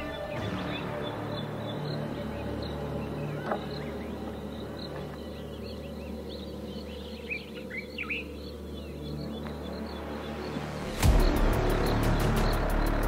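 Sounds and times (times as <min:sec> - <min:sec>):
birds chirping: 0:00.0 - 0:13.0
low steady drone: 0:00.0 - 0:13.0.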